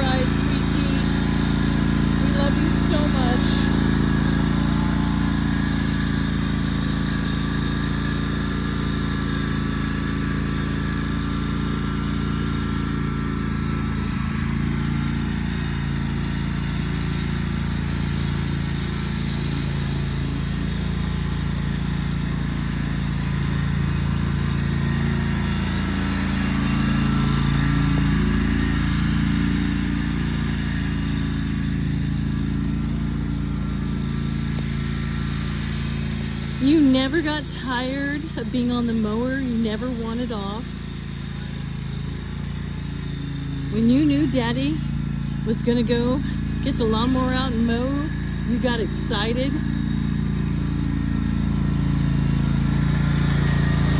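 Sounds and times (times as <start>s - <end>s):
riding lawn mower engine running: 0.0s - 53.9s.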